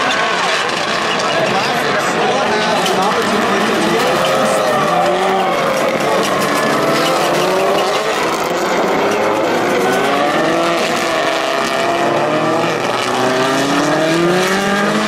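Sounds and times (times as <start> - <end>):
racing car engines accelerating: 0.0 - 15.0.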